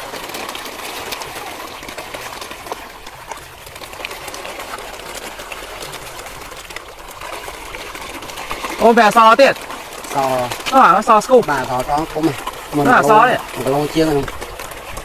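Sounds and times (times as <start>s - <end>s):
fish splashing at water surface: 0.0s - 15.0s.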